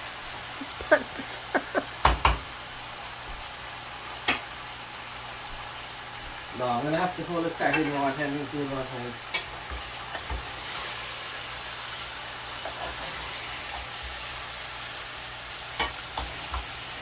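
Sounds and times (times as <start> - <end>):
bananas sizzling in hot oil: 0.0 - 17.0.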